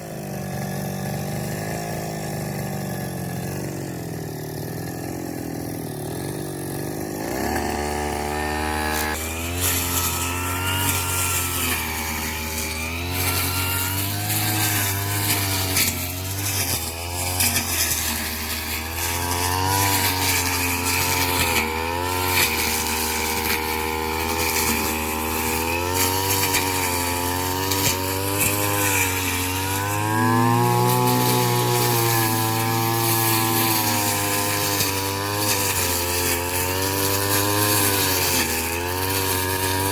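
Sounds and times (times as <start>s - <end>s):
small petrol engine revving: 0.0s - 39.9s.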